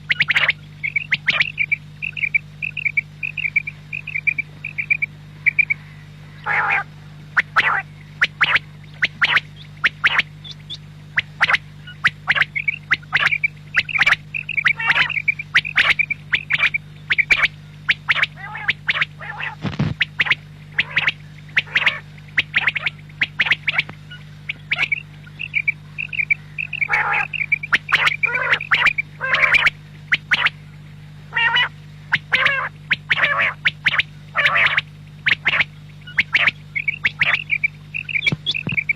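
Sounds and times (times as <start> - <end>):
quail calling: 0.0 - 30.6, 31.3 - 38.9
low hum: 0.0 - 38.9.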